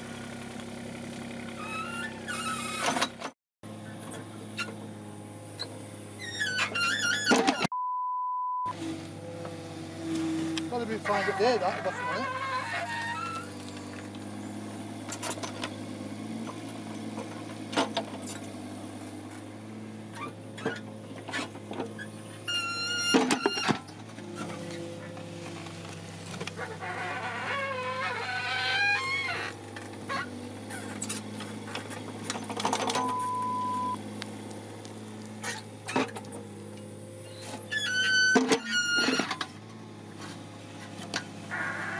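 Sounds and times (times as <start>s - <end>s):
diesel engine running: 0.0s - 7.6s, 8.7s - 41.9s
bucket and hydraulic arm clanking: 5.5s - 7.7s, 9.3s - 34.0s, 34.9s - 41.9s.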